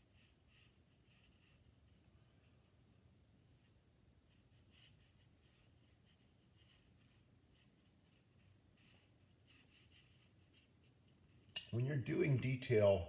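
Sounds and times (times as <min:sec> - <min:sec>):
brush strokes on paper: 0:00.0 - 0:13.0.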